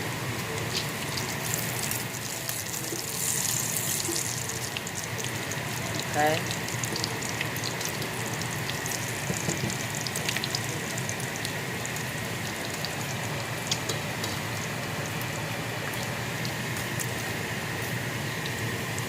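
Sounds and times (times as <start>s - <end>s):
bacon sizzling in a pan: 0.0s - 19.0s.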